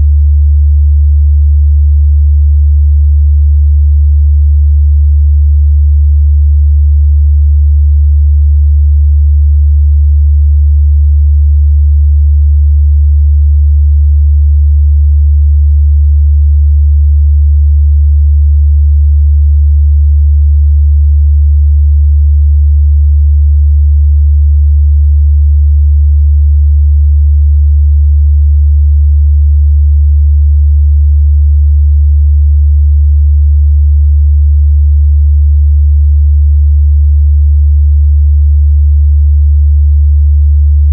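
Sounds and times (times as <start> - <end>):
low sine-wave test tone: 0.0 - 40.9.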